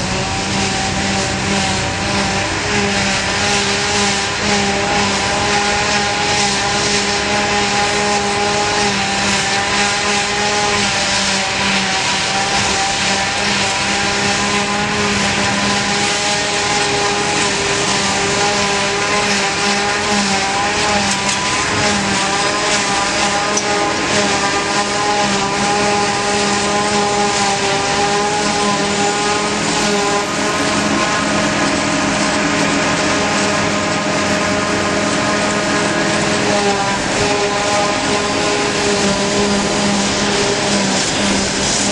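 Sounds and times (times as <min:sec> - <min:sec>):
constant rushing hiss: 0:00.0 - 0:41.9
harvesting machinery droning: 0:00.0 - 0:41.9
steady machine whine: 0:00.0 - 0:41.9.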